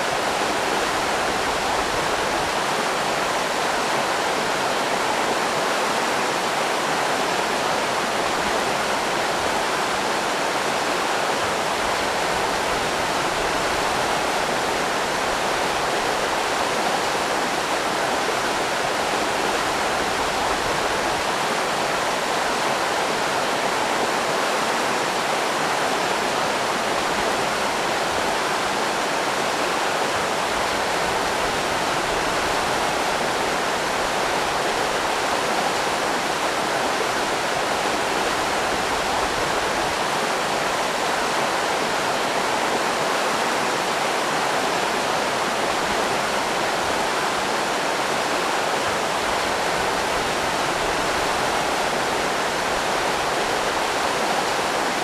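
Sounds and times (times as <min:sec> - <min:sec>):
river rapids rushing: 0:00.0 - 0:55.0.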